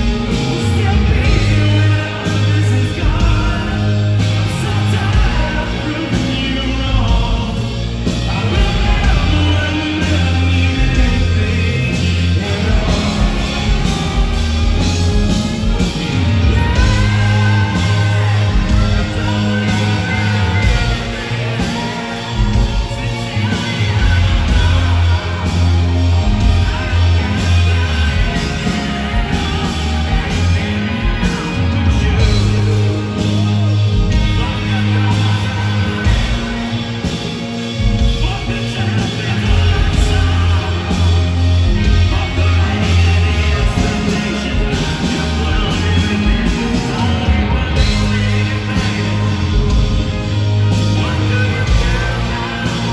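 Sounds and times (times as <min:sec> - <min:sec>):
live rock band playing: 0:00.0 - 0:52.9
person singing: 0:00.0 - 0:52.9.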